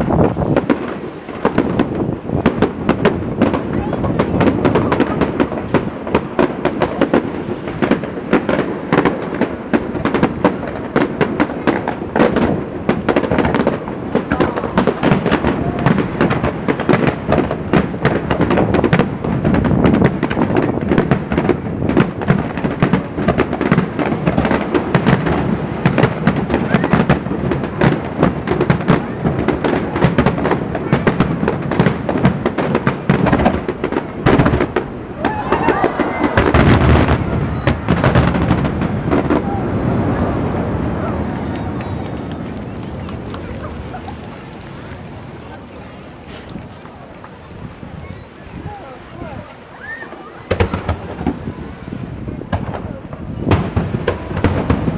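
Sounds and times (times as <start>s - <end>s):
fireworks banging: 0.0s - 54.9s.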